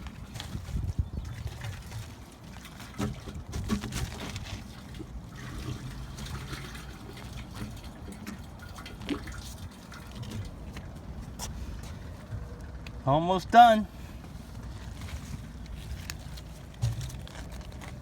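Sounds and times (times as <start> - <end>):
waste water trickling through hose: 0.0 - 12.8, 14.1 - 18.0.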